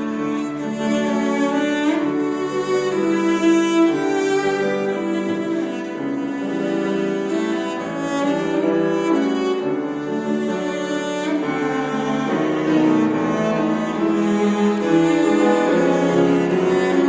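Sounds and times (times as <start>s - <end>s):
cello melody: 0.0s - 17.0s
piano accompaniment: 0.0s - 17.0s.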